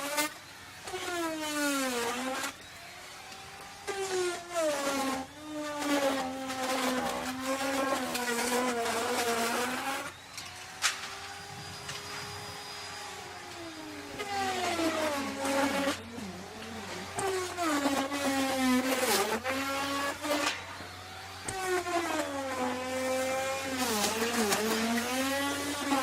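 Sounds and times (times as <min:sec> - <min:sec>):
electric router cutting wood: 0:00.0 - 0:26.0.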